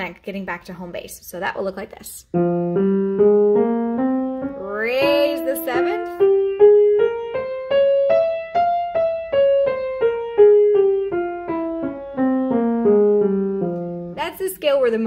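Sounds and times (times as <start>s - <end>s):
piano playing a scale: 2.3s - 15.0s.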